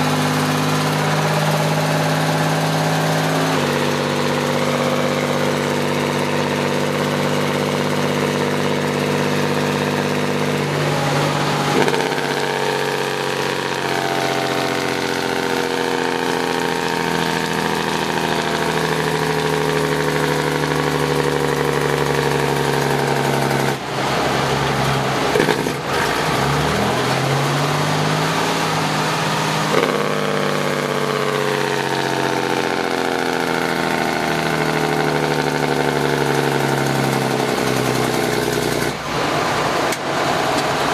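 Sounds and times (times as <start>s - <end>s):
loud diesel truck engine: 0.0s - 40.9s.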